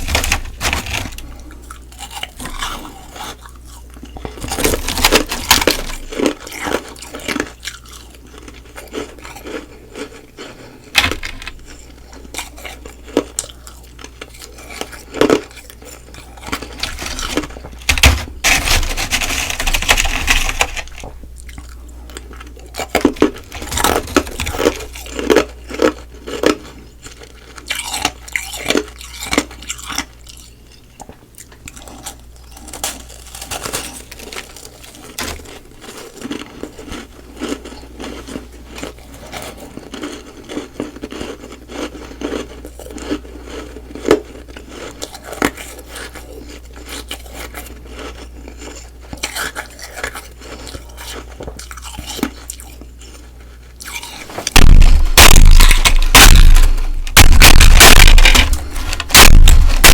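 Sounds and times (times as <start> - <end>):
ice crunching while chewed: 0.0 - 59.9.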